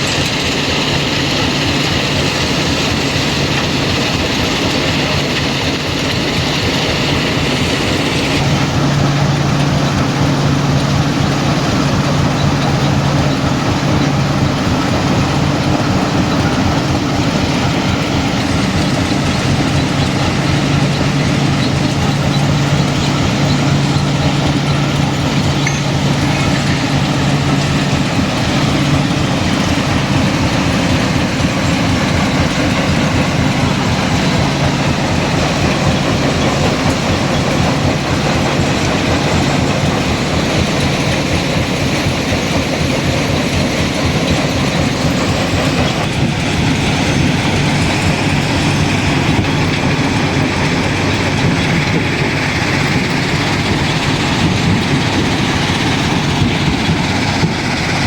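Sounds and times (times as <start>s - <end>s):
crushing plant engine drone: 0.0s - 58.0s
dense rattling and clatter: 0.0s - 58.0s.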